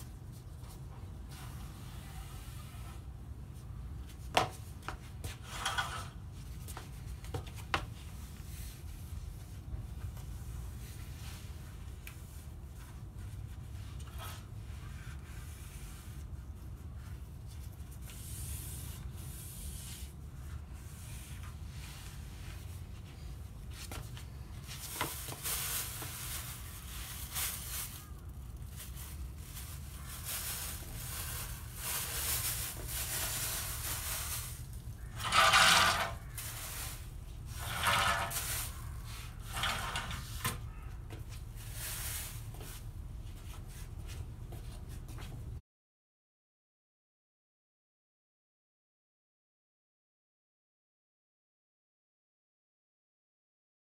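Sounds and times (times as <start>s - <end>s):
cloth wiping screen door: 0.2s - 28.2s, 28.8s - 45.4s.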